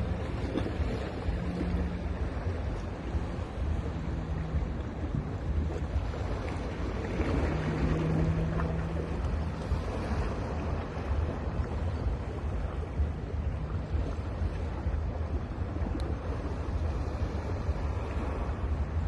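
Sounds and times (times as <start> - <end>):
ocean surf washing onto beach: 0.0 - 19.0
wind buffeting microphone: 0.0 - 19.0.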